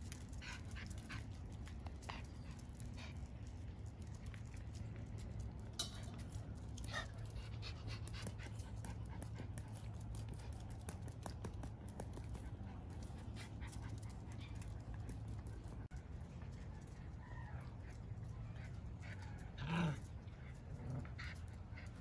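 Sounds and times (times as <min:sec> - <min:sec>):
dogs panting: 0:00.0 - 0:22.0.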